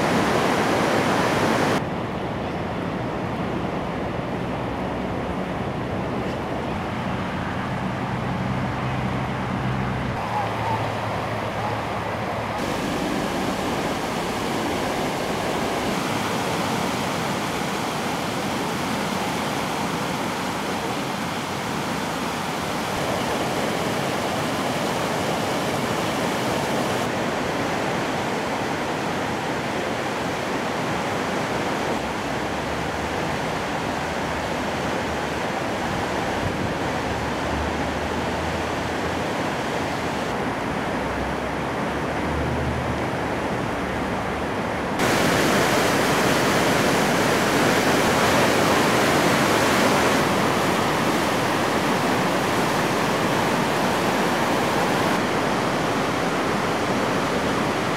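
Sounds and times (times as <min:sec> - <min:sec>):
fast floodwater rushing: 0:00.0 - 0:57.9.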